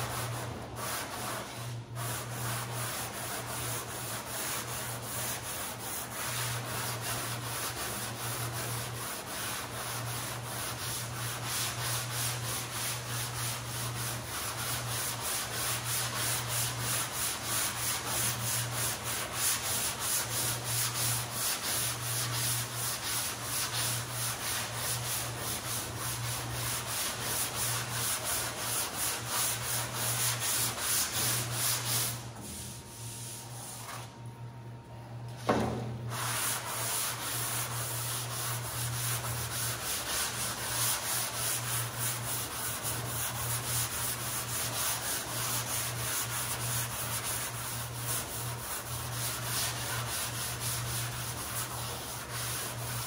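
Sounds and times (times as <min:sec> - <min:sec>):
sanding block rubbing: 0:00.0 - 0:33.8, 0:36.1 - 0:53.0.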